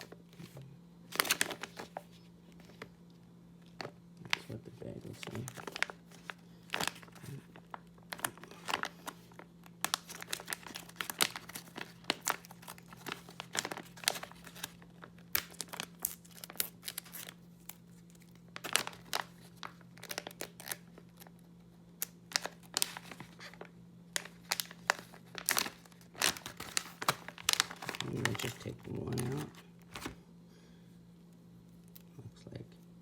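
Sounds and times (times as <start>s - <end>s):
steady low hum: 0.0s - 33.0s
packaging bag crinkling: 1.1s - 3.0s, 3.6s - 21.4s, 22.0s - 30.2s.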